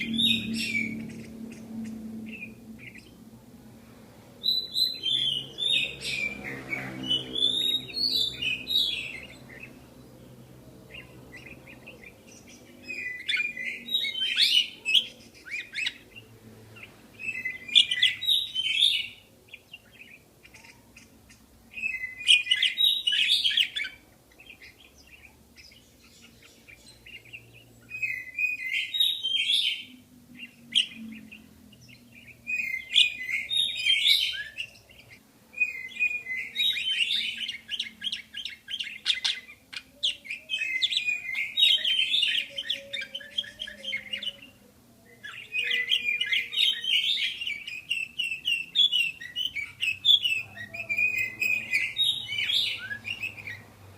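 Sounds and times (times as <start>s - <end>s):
budgerigars chirping and warbling: 0.0s - 53.9s.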